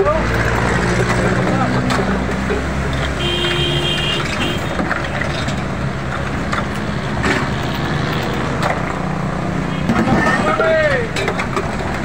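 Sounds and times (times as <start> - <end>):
roadside traffic noise: 0.0 - 12.0.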